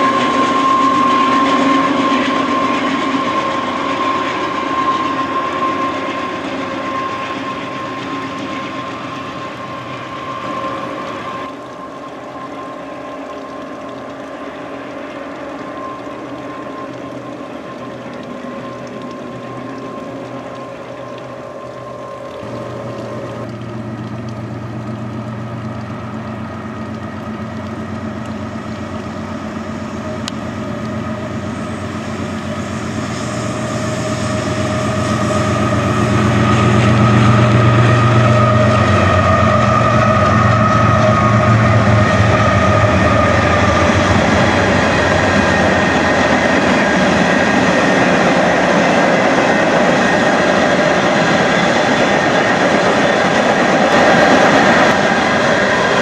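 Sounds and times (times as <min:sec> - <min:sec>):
distant train hum: 0:00.0 - 0:56.0
freight locomotive diesel engines: 0:00.0 - 0:56.0.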